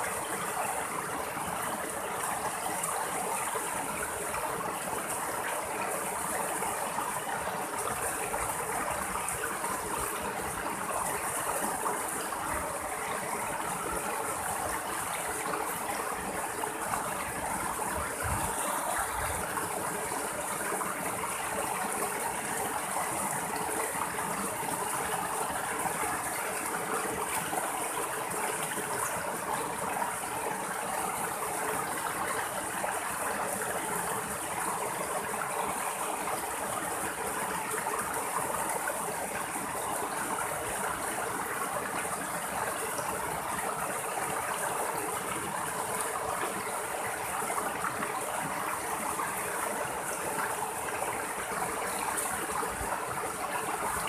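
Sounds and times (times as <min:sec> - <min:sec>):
stream splashing over rocks: 0:00.0 - 0:54.0.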